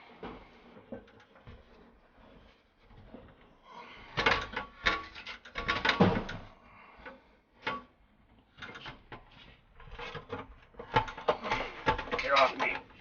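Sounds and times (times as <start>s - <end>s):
tools knocking and scraping: 0.1s - 13.0s.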